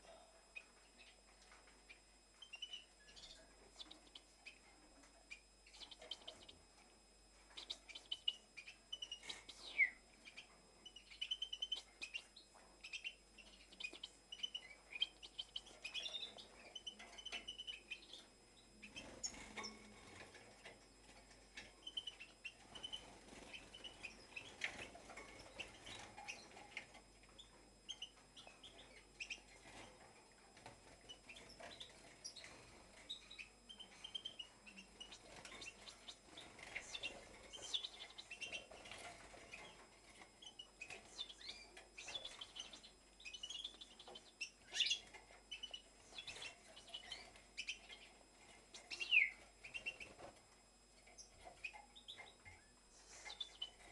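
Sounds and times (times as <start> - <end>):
finches chirping and twittering: 0.0 - 53.9.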